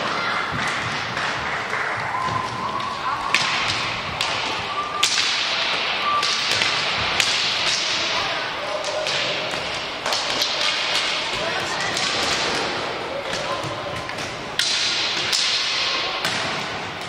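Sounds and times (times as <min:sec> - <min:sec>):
background hubbub: 0:00.0 - 0:17.0.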